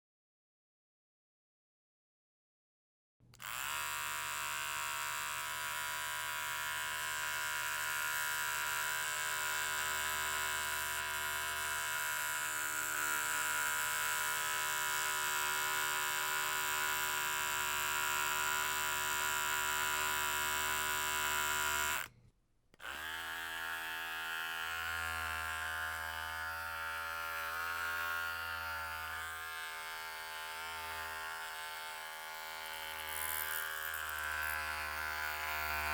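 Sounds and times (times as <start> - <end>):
electric hair clippers buzzing: 3.4 - 22.2, 22.8 - 35.9.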